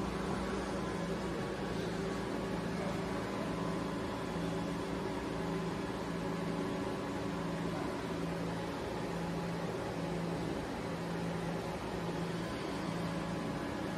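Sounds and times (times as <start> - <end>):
lathe humming: 0.0 - 13.9.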